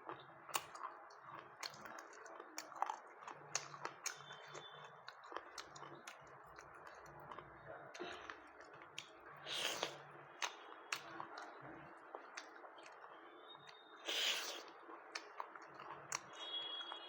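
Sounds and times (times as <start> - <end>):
person chewing food: 0.0 - 17.0
lip and mouth clicks: 0.1 - 16.4.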